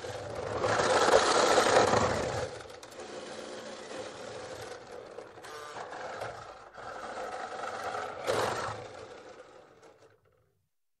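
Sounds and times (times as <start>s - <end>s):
toy electric motor whining: 0.0s - 10.1s.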